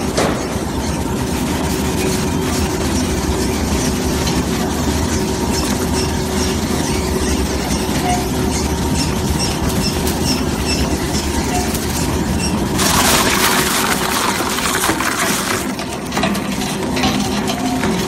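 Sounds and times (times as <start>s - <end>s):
shredder drive humming: 1.8s - 18.0s.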